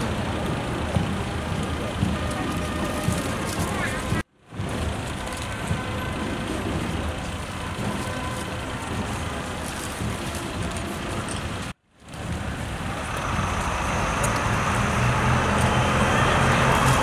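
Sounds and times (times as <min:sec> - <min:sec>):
low engine hum: 0:00.0 - 0:17.0
road traffic noise: 0:00.0 - 0:17.0.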